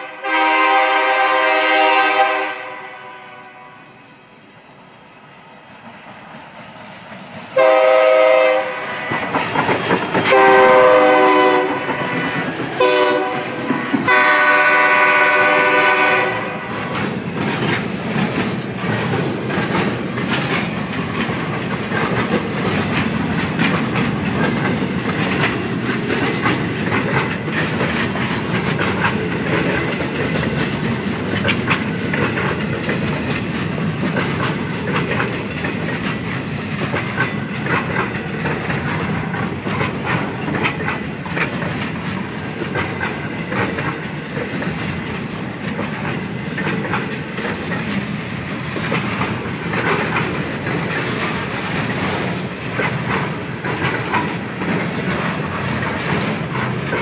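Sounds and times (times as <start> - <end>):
freight train rumble: 0.0 - 57.0
wheels clacking over rail joints: 4.5 - 57.0.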